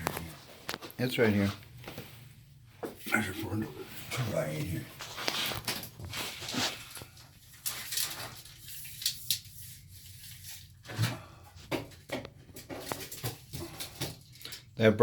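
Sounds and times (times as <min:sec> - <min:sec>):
rustling of handled materials: 0:00.0 - 0:14.8.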